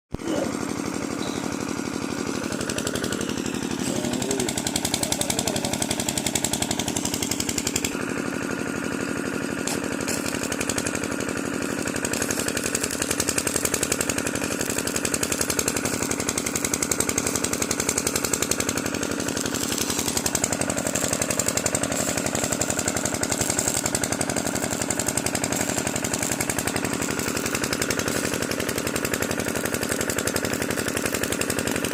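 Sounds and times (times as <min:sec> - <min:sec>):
welding arc crackling: 0:00.3 - 0:31.9.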